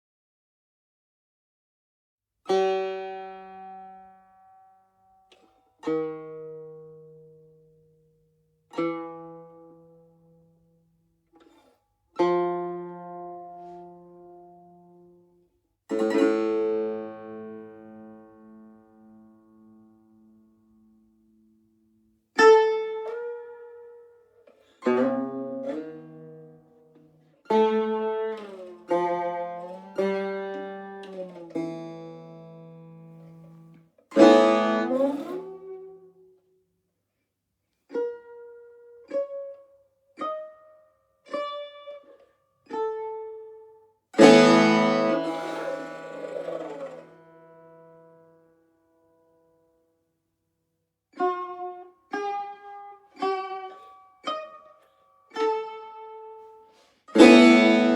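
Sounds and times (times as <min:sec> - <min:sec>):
long-necked lute plucked: 0:02.5 - 0:10.8, 0:11.4 - 0:21.6, 0:22.4 - 0:36.4, 0:37.9 - 0:49.6, 0:51.1 - 0:57.9.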